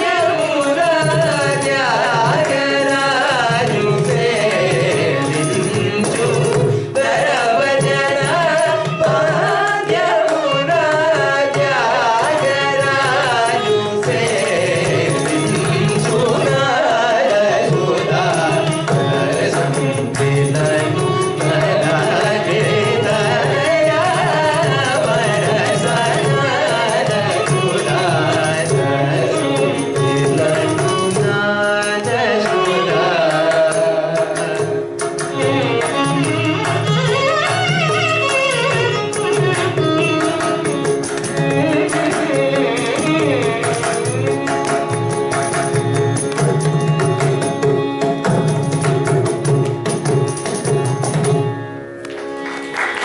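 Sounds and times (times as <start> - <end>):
hand drum playing: 0.0 - 16.8, 17.5 - 53.0
person singing: 0.0 - 45.6.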